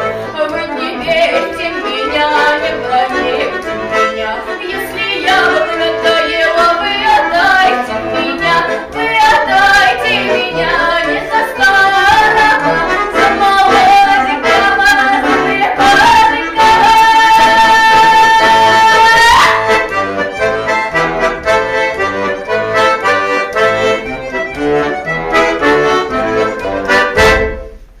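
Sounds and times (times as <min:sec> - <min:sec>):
accordion playing dance tune: 0:00.0 - 0:28.0.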